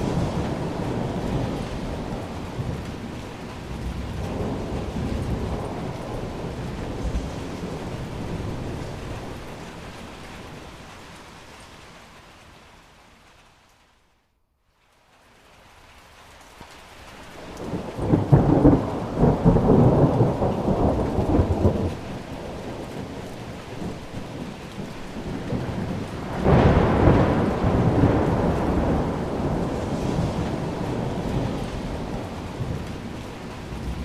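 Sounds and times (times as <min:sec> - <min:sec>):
thunder rumbling: 0:00.0 - 0:11.8, 0:17.4 - 0:34.0
steady rain: 0:00.0 - 0:34.0.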